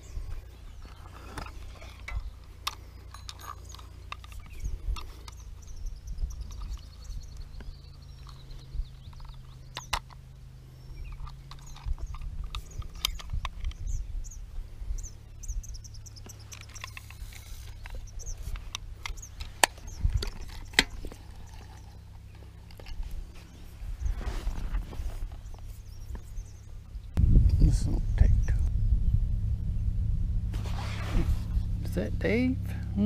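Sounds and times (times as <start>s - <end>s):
birds chirping faintly: 0.0s - 30.0s
low steady rumble: 0.0s - 33.0s.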